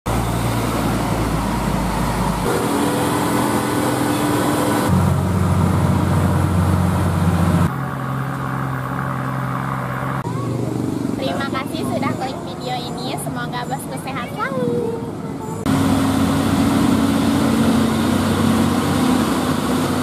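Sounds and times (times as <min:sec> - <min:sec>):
diesel truck engine drone: 0:00.1 - 0:20.0.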